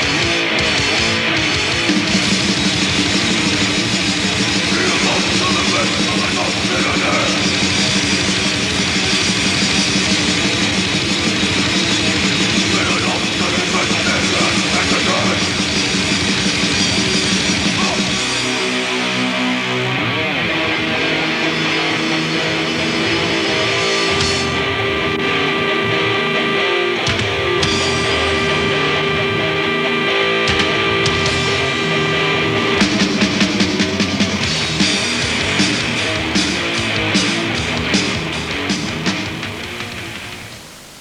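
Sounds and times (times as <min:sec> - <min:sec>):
drums pounding: 0:00.0 - 0:18.6, 0:22.2 - 0:40.5
held guitar notes ringing: 0:00.0 - 0:40.5
distorted electric guitars: 0:00.0 - 0:41.0.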